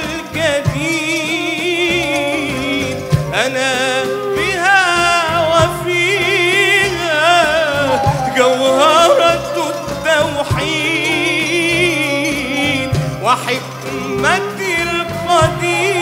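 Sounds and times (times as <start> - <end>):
low instrumental accompaniment: 0.0 - 16.0
man singing with vibrato: 0.0 - 16.0.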